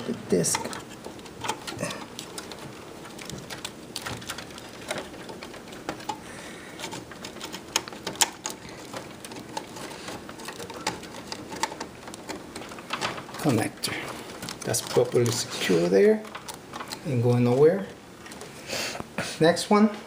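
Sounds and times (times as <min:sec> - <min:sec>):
clicks and rattles of plastic parts: 0:00.0 - 0:18.5.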